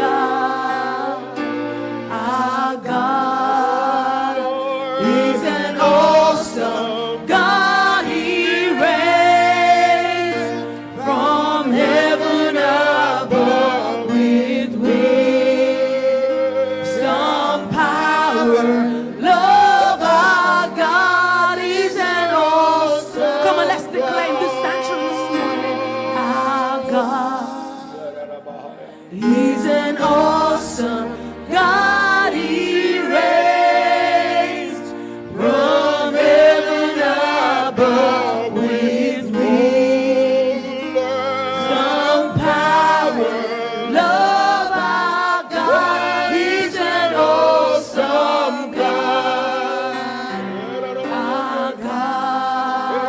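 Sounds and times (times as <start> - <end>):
group singing gospel song: 0.0 - 53.0
steady musical backing: 0.0 - 53.0.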